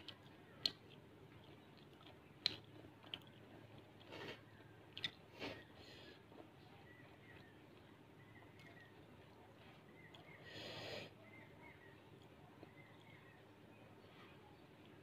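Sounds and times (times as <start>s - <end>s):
person chewing food: 0.0s - 11.0s, 11.7s - 13.6s.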